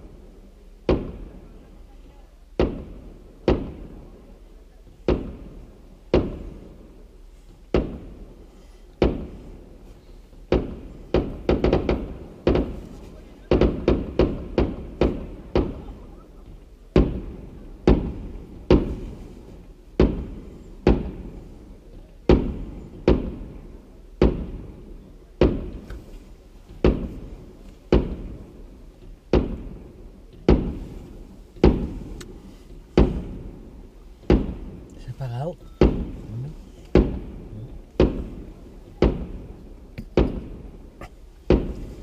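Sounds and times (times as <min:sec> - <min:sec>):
firework shells bursting: 0:05.0 - 0:42.0.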